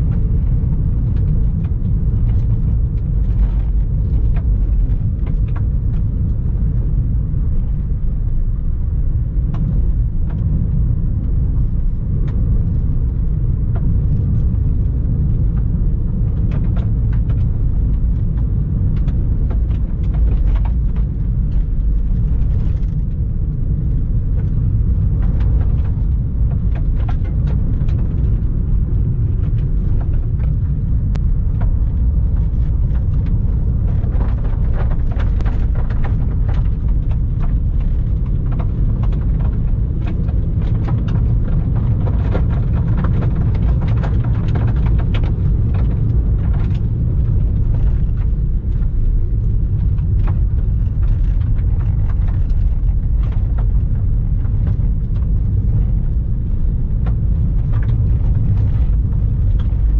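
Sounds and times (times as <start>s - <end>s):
car tyres rumbling on gravel: 0.0s - 59.9s
gravel clicks: 0.0s - 59.9s.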